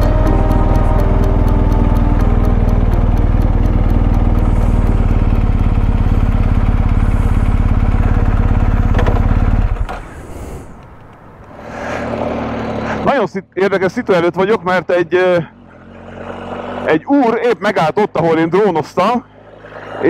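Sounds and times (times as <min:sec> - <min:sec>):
motorcycle engine running: 0:00.0 - 0:13.2, 0:15.4 - 0:20.0
wind: 0:03.4 - 0:20.0.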